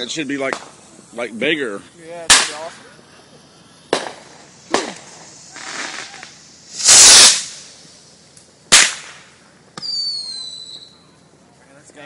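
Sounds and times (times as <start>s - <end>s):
fireworks bangs: 0.0s - 11.0s
firework hiss: 0.0s - 11.4s.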